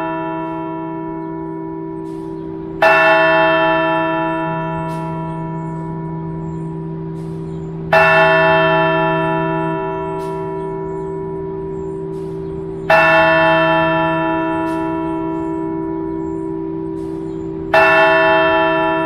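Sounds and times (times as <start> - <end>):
church bell ringing: 0.0 - 19.0
deep bell tones humming: 0.0 - 19.0.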